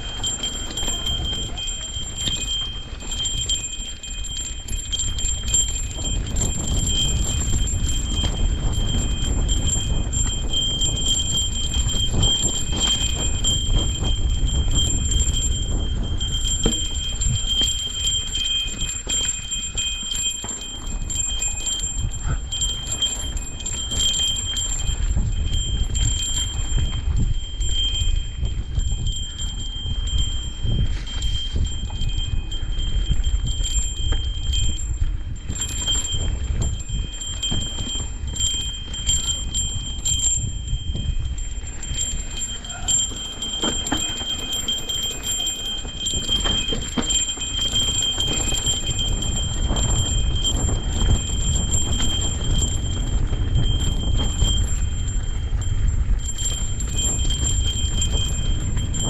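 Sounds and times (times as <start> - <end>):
bike rumbling over rough ground: 0.0 - 59.0
metallic ringing: 0.0 - 59.0.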